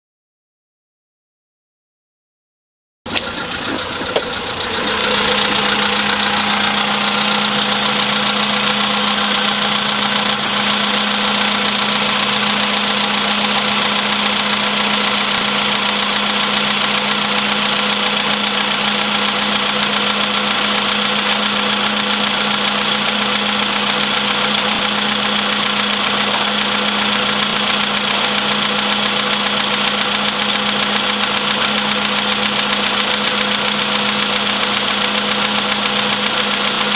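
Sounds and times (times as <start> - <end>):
car engine idling with knocking: 3.1 - 36.9.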